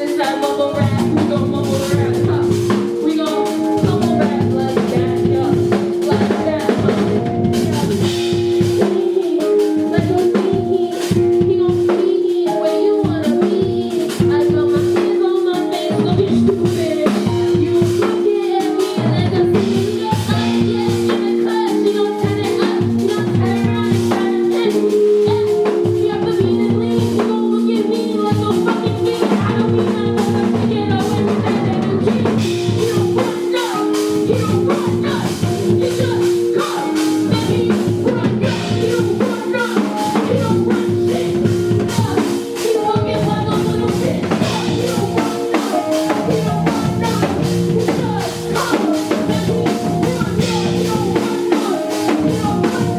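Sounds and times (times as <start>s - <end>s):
drum kit beat: 0.0s - 52.9s.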